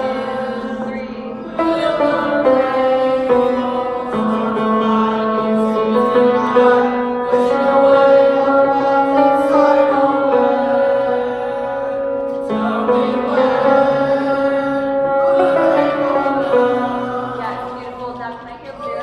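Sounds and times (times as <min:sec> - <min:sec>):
choir singing long held notes: 0:00.0 - 0:17.9.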